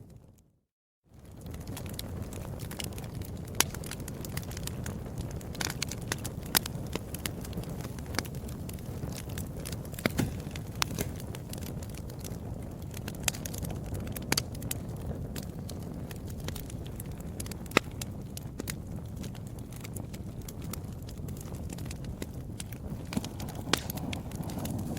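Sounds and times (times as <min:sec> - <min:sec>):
wood fire crackling and popping: 0:01.2 - 0:24.9.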